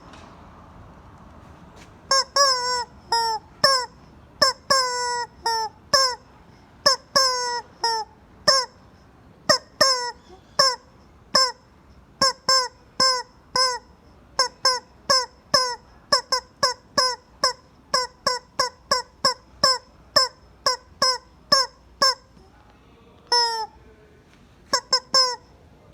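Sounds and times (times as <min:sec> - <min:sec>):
rubber chicken toy squawking: 0:02.1 - 0:22.5, 0:23.3 - 0:23.8, 0:24.7 - 0:25.5.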